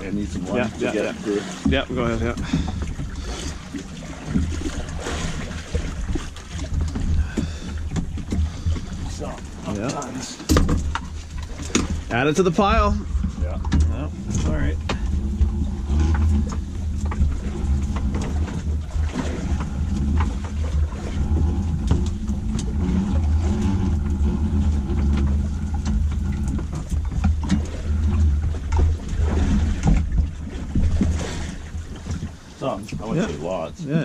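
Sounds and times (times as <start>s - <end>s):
boat motor drone: 0.0s - 34.0s.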